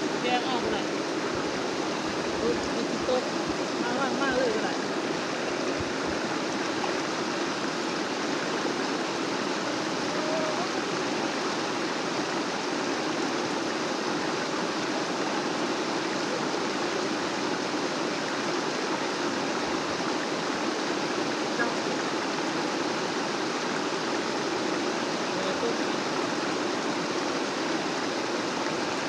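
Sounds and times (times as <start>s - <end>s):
fast-flowing water rushing: 0.0s - 29.0s.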